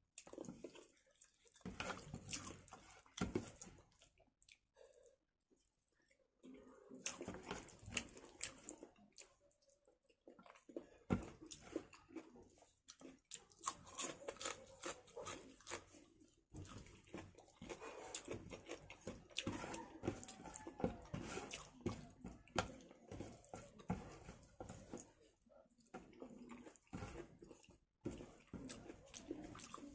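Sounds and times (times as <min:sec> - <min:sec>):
person chewing with wet mouth sounds: 0:00.0 - 0:29.9.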